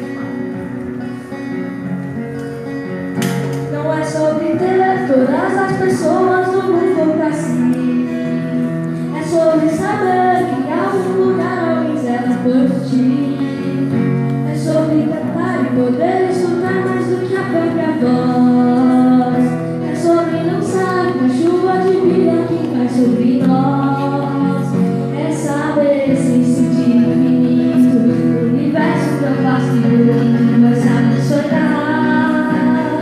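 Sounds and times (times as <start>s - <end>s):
boy singing: 3.7s - 33.0s.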